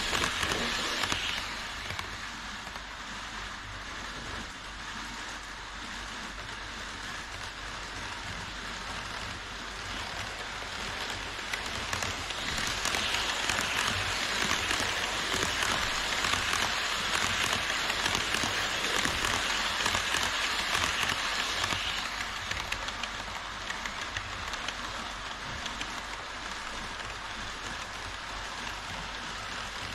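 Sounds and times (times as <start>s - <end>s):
model trains running on track: 0.0s - 29.9s.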